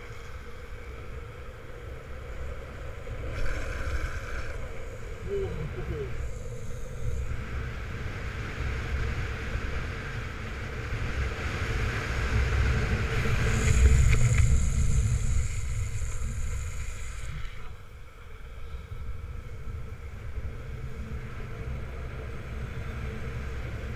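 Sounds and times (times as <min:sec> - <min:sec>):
wheels rolling on wet asphalt: 0:00.0 - 0:05.2, 0:05.8 - 0:23.9.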